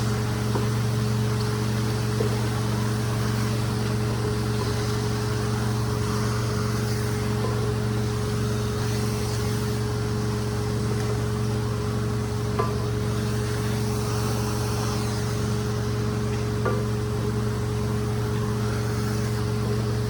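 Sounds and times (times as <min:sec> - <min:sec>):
rug-cleaning machine running: 0:00.0 - 0:20.0.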